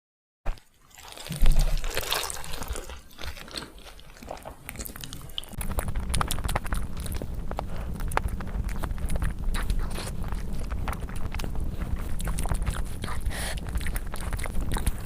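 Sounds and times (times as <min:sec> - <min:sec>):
chewing with wet mouth clicks: 0:01.0 - 0:15.0
crunchy bite: 0:01.2 - 0:15.0.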